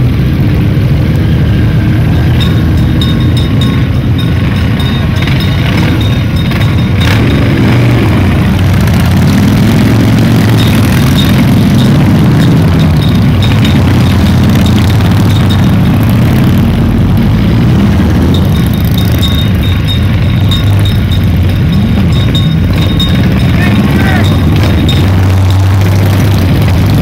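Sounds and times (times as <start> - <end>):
motorcycle engines running: 0.0 - 27.0.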